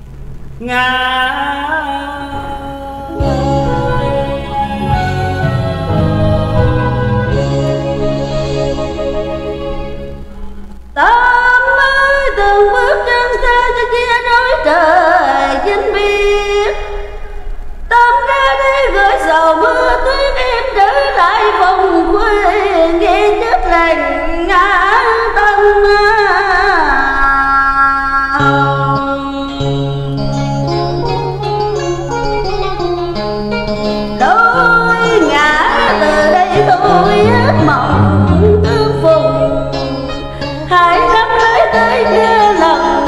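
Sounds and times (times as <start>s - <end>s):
woman singing with vibrato: 0.6s - 8.5s, 11.0s - 17.3s, 17.9s - 30.5s, 33.9s - 43.0s
instrumental backing music: 2.2s - 27.3s, 28.3s - 43.0s.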